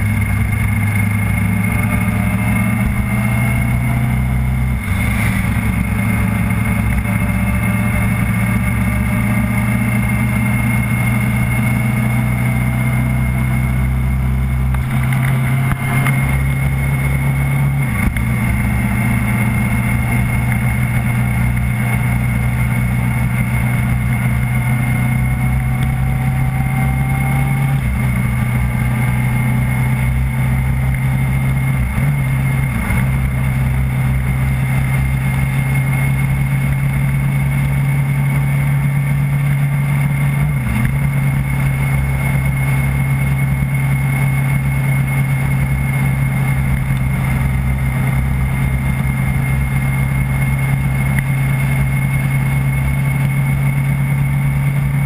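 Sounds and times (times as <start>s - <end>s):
road and wind noise: 0.0s - 55.0s
vehicle engine droning: 0.0s - 55.0s.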